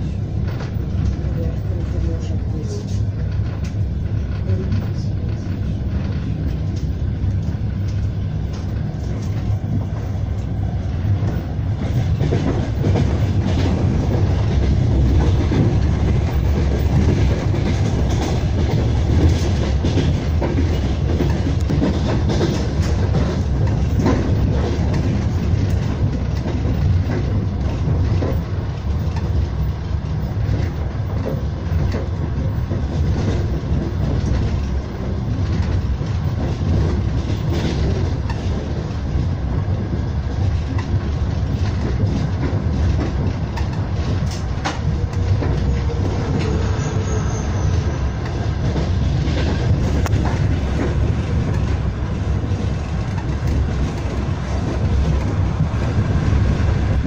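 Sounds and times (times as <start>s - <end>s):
train carriage rumble: 0.0s - 57.0s
wheels clacking over rail joints: 0.0s - 57.0s.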